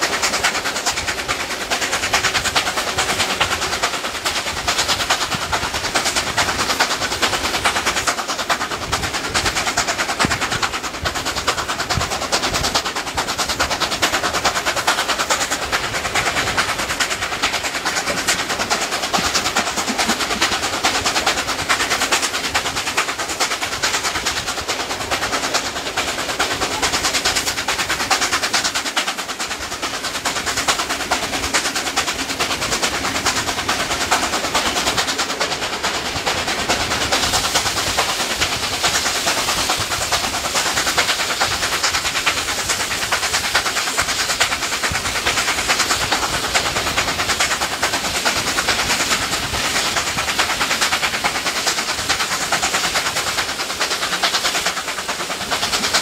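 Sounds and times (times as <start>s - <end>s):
steam locomotive exhaust beats: 0.0s - 56.0s
train rumble: 0.0s - 56.0s.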